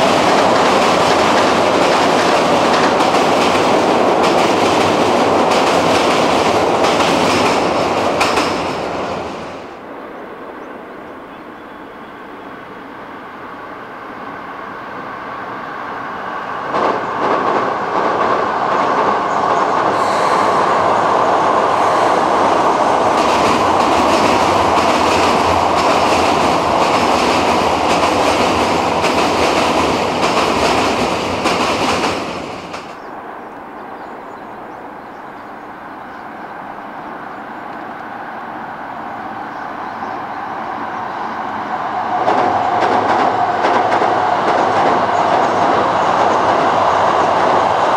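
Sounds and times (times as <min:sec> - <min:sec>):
second train rumble: 0:00.0 - 0:47.9
train rumbling over bridge: 0:00.0 - 0:47.9.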